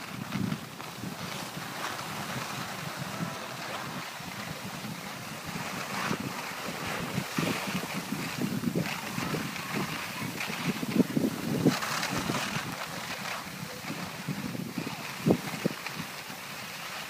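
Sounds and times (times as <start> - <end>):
skis sliding on snow: 0.0 - 17.0
wind buffeting microphone: 0.0 - 17.0.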